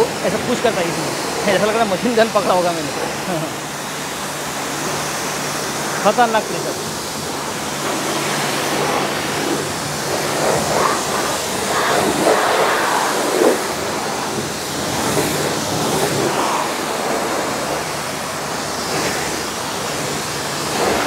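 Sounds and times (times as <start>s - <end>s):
pressure washer spraying car: 0.0s - 21.0s.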